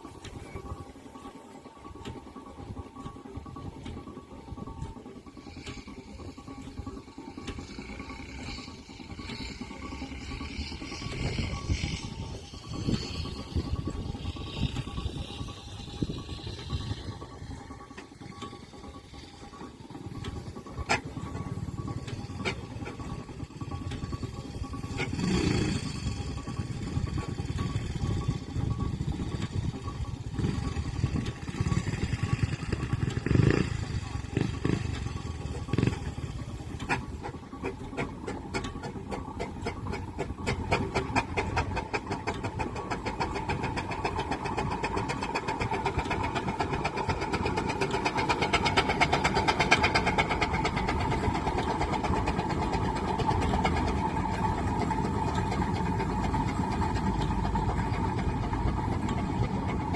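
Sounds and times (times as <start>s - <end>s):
steady ringing tone: 0.0s - 59.9s
steam engine working: 0.0s - 59.9s
steam exhaust beats: 0.0s - 59.9s.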